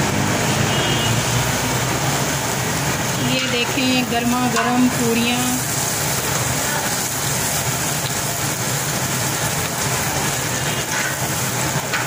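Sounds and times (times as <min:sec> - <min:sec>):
deep-frying sizzle in oil: 0:00.0 - 0:12.0.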